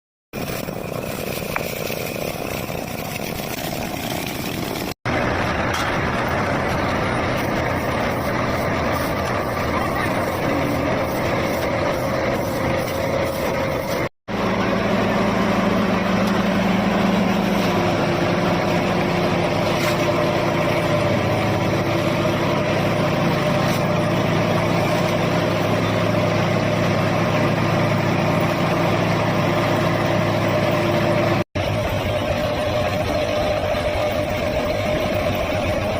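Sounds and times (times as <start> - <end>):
road roller engine running: 0.3 - 35.9.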